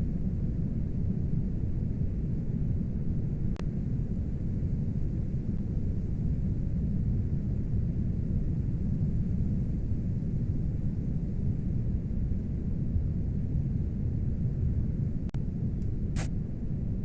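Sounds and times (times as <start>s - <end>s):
strong storm wind rumble: 0.0s - 17.0s.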